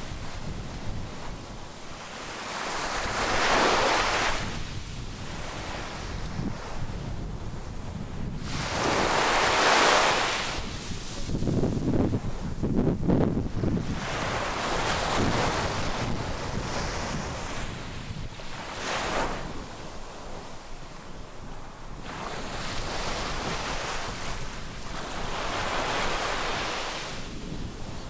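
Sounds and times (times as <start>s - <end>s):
wind buffeting microphone: 0.0s - 20.6s, 21.2s - 28.0s
sea waves breaking on shore: 0.0s - 28.0s.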